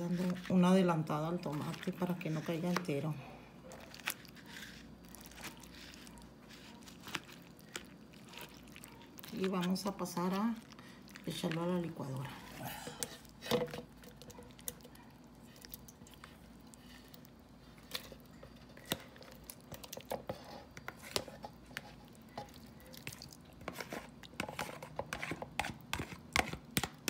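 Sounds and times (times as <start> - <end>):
soft wet squishes: 0.0 - 27.0.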